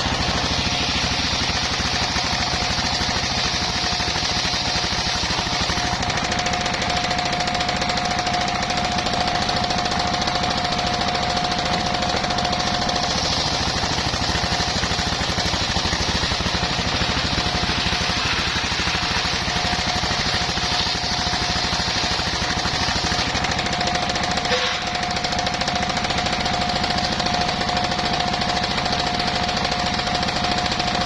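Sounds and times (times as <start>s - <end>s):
circular saw whine: 0.0s - 25.4s
engine pounding: 0.0s - 31.0s.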